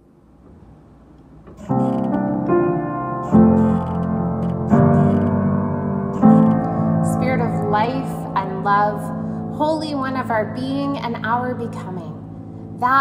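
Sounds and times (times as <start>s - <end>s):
slow piano chords: 1.4s - 13.0s.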